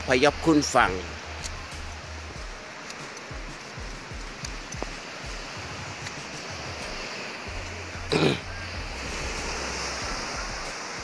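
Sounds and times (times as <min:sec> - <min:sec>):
surf washing on beach: 0:00.0 - 0:11.0.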